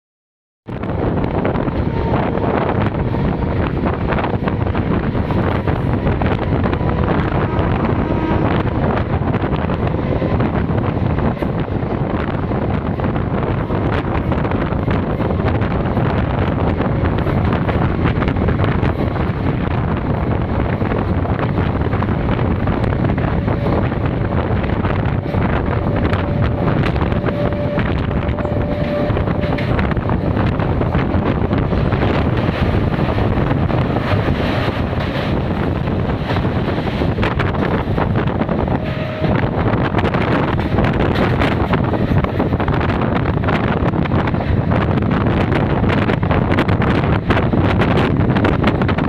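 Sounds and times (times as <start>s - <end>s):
wind on microphone: 0.6s - 49.0s
train running noise: 0.7s - 49.0s.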